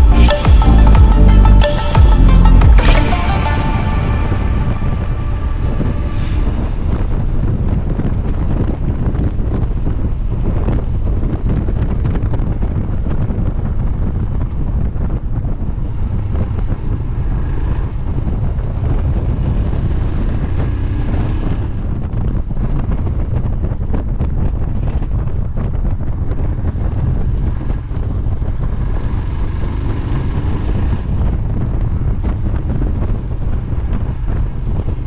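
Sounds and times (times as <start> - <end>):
motorcycle engine running: 3.6 - 35.0
wind buffeting microphone: 4.1 - 35.0.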